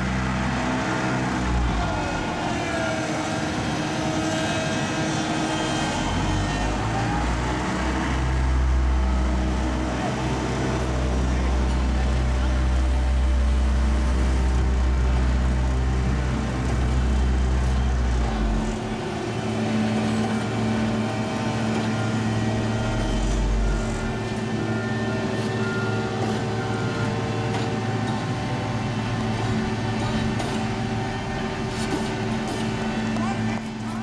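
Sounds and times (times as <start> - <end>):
diesel engines running: 0.0 - 34.0.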